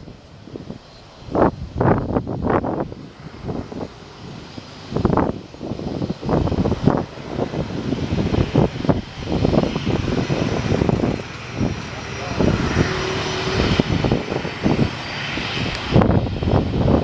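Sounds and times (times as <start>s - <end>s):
jet engines rushing: 0.0s - 17.0s
wind buffeting on microphone: 0.0s - 17.0s.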